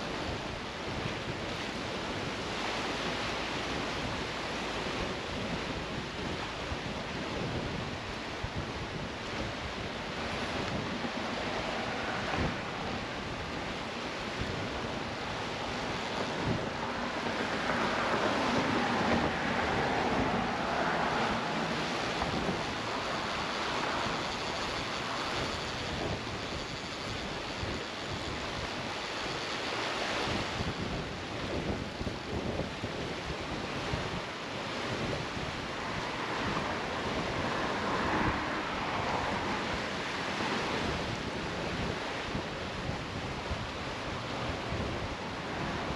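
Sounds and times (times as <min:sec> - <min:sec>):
water rushing and splashing: 0:00.0 - 0:45.9
wind buffeting microphone: 0:00.0 - 0:45.9.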